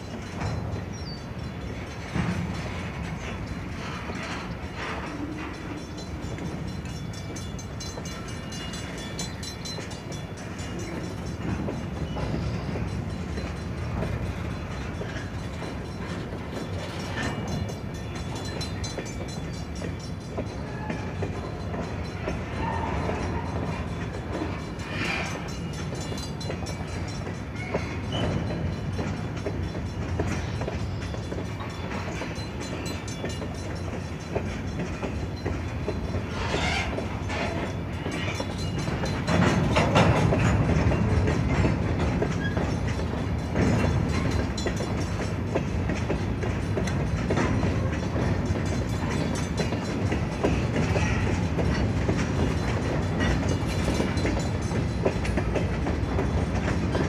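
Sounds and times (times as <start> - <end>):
train wheels rumbling on rails: 0.0 - 57.0
wheels clacking over rail joints: 0.0 - 57.0.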